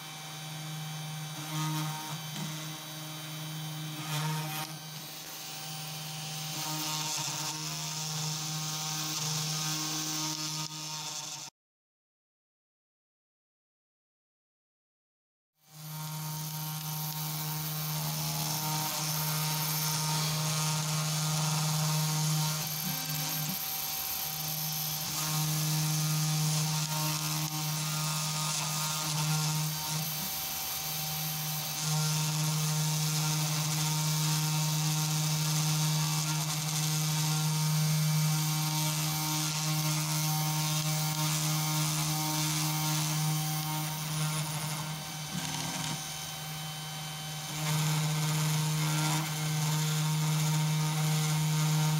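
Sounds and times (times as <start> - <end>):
router spindle humming: 0.0 - 11.5, 15.6 - 51.9.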